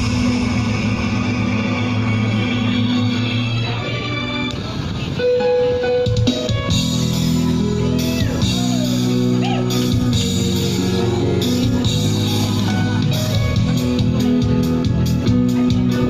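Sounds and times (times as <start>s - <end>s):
instrumental pop band music: 0.0s - 16.0s.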